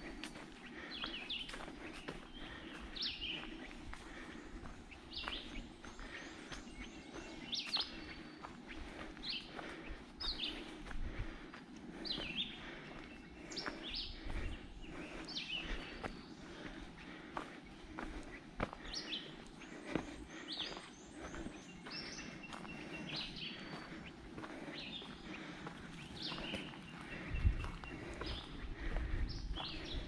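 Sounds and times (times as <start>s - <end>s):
soft footsteps: 0.0s - 30.0s
songbird chirping: 0.0s - 30.0s.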